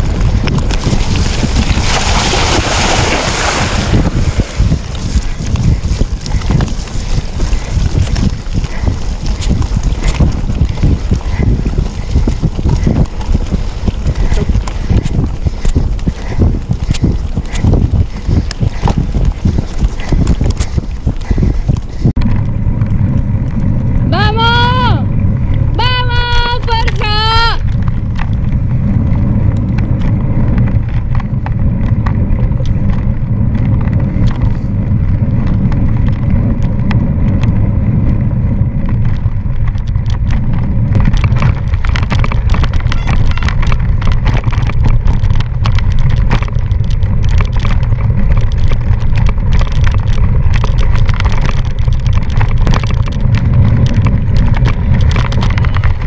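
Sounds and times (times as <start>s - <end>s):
bike rattling over rough ground: 0.0s - 56.0s
wind buffeting microphone: 0.0s - 56.0s.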